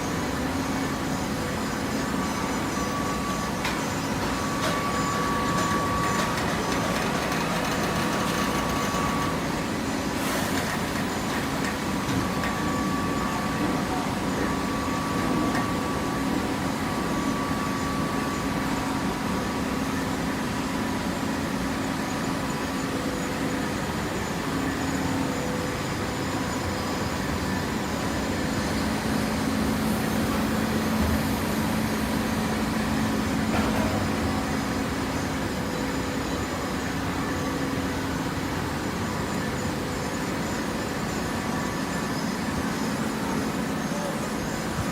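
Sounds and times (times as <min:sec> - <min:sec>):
baler machine hum: 0:00.0 - 0:44.9.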